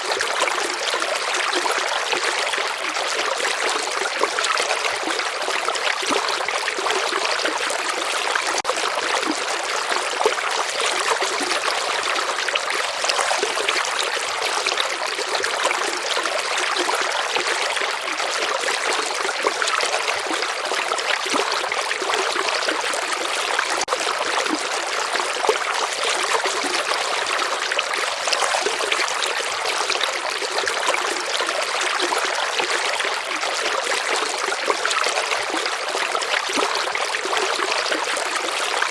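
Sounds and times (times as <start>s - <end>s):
shallow river water trickling: 0.0s - 38.9s.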